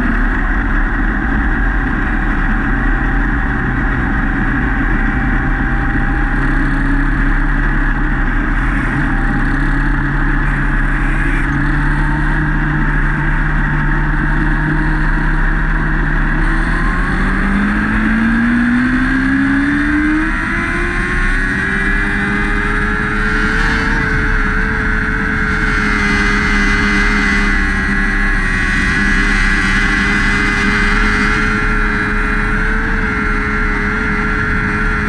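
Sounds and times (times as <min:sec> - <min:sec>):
heavy wind rush: 0:00.0 - 0:35.0
race car engine at speed: 0:00.0 - 0:35.0.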